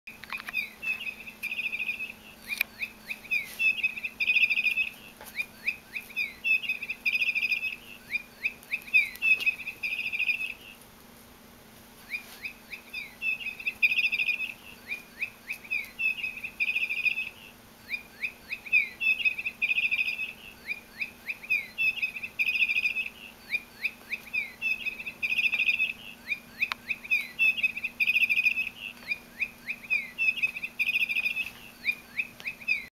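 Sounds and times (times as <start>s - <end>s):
toy parrot chirping: 0.5s - 10.8s, 12.5s - 32.9s.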